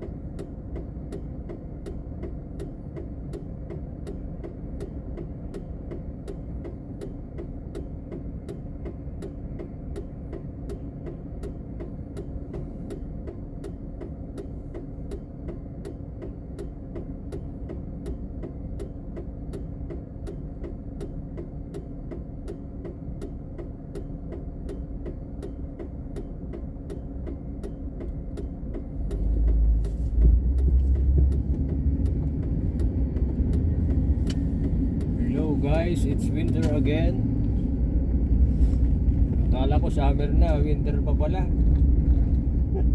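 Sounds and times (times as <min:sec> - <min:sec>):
regular ticking: 0:00.0 - 0:38.2
car engine hum: 0:00.0 - 0:42.9.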